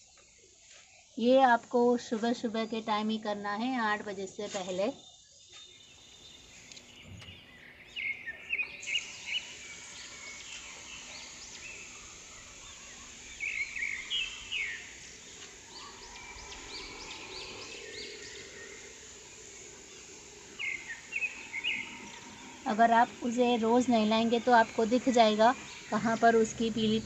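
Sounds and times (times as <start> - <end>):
outdoor background hiss: 0.0 - 27.0
small birds chirping: 0.0 - 27.0.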